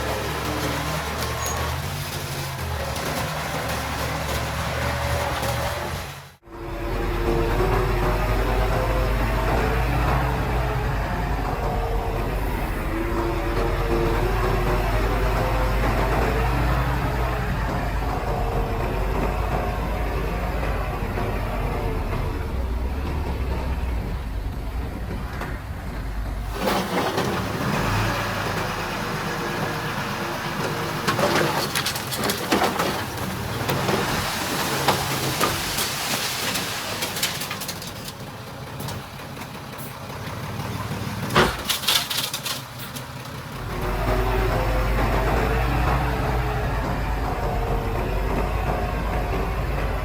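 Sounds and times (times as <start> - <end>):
diesel engine rumble: 0.0 - 50.0
machinery clattering and scraping: 0.0 - 50.0.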